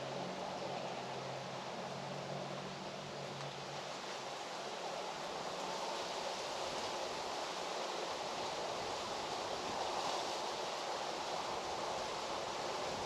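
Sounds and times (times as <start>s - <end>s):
steady rushing outdoor noise: 0.0s - 13.0s.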